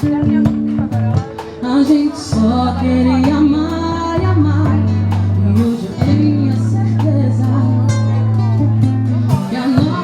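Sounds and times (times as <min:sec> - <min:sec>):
guitar: 0:00.0 - 0:10.0
held bass notes: 0:00.0 - 0:10.0.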